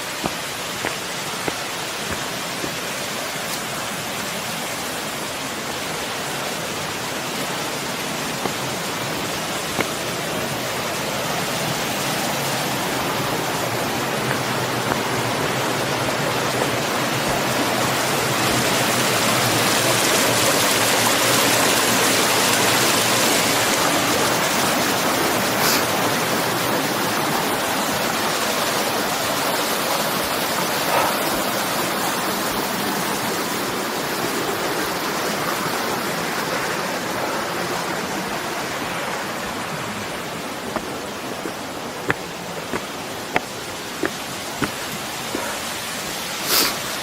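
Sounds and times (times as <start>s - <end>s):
rushing water: 0.0s - 47.0s.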